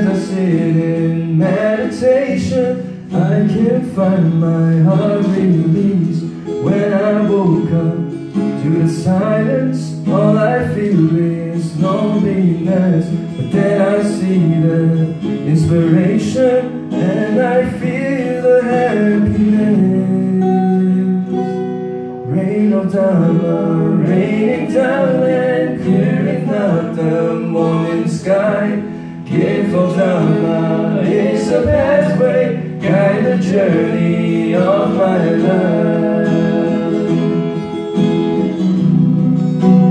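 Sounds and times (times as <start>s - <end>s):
men singing: 0.0s - 21.3s, 22.2s - 37.6s
acoustic guitar: 0.0s - 39.9s.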